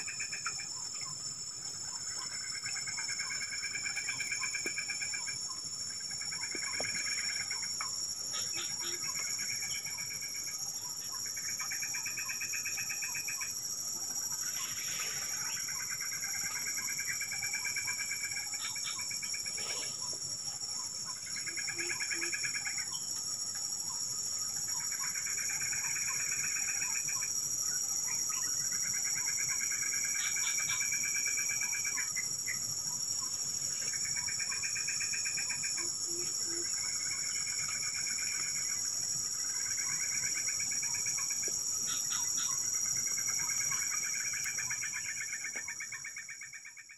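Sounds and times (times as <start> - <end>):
buzzy trills of calling insects: 0.0 - 46.9
high-pitched insect drone: 0.0 - 46.9.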